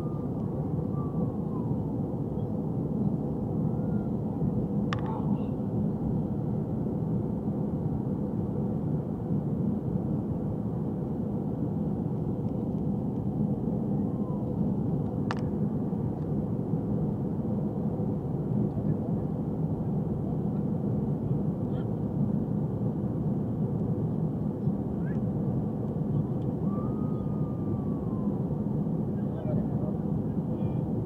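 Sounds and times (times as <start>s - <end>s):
jet cabin engine and airflow rush: 0.0s - 31.0s.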